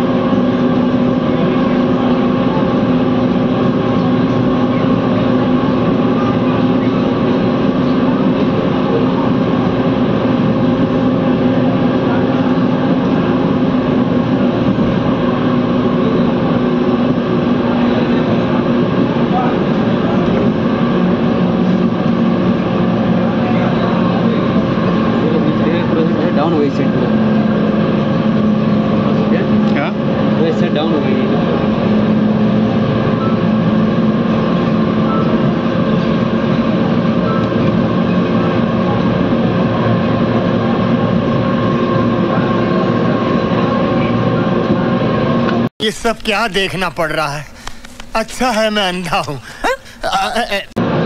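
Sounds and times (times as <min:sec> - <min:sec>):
constant low hum: 0:00.0 - 0:51.0
train running noise: 0:00.0 - 0:51.0.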